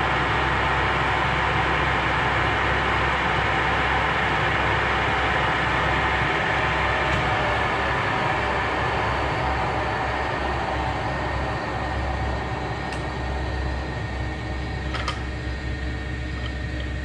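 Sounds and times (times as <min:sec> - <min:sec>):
lathe hum and whine: 0:00.0 - 0:17.0.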